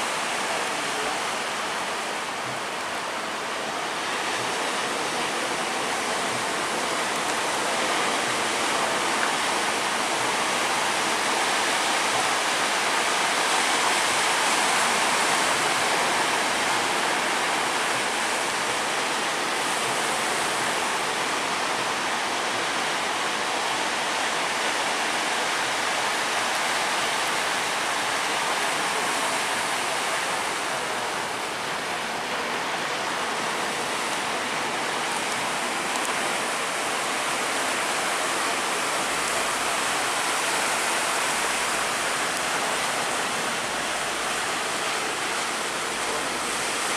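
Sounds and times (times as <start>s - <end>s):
sea waves rushing: 0.0s - 46.9s.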